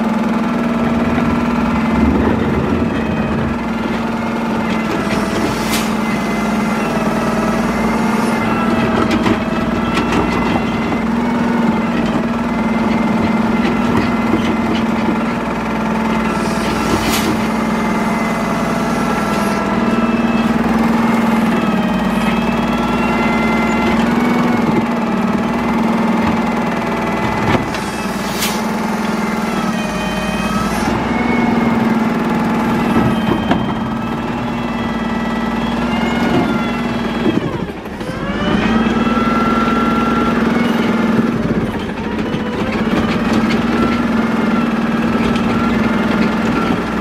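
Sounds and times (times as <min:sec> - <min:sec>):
hydraulic whine: 0:00.0 - 0:47.0
truck engine running: 0:00.0 - 0:47.0.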